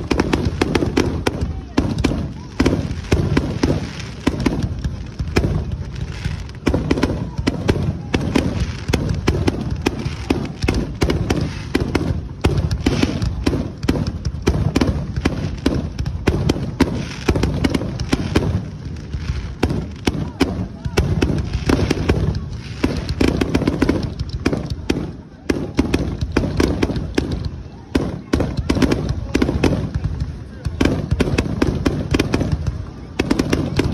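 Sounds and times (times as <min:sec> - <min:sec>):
continuous rumble: 0:00.0 - 0:33.9
fireworks booming bangs: 0:00.0 - 0:33.9.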